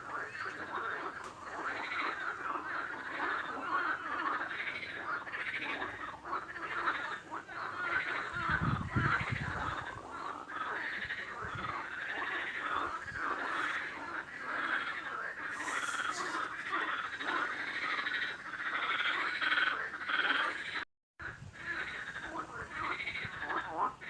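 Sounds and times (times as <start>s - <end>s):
chorus of frogs croaking: 0.0s - 24.0s.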